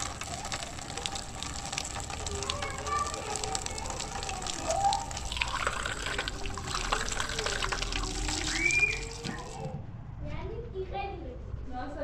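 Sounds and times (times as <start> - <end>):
water running from tap: 0.0 - 9.7
water splashing over glass: 0.0 - 9.7.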